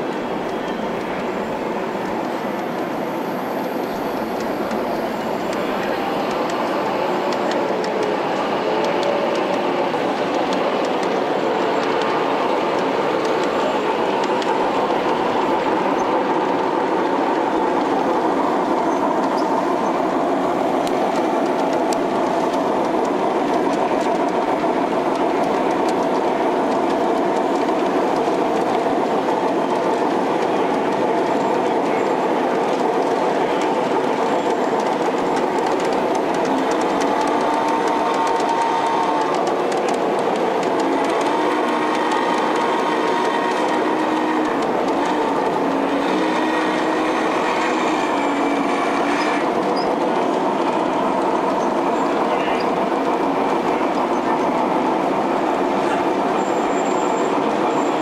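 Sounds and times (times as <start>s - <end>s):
model train wheels clattering: 0.0s - 58.0s.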